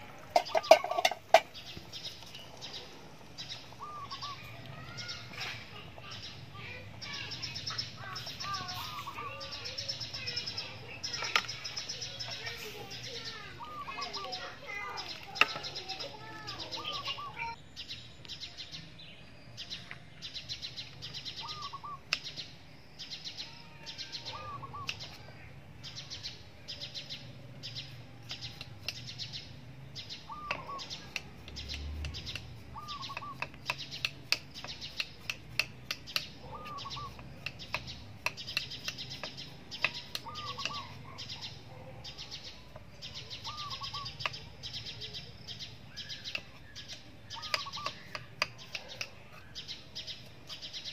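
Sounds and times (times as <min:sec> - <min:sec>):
birds chirping and trilling: 0:00.0 - 0:50.9.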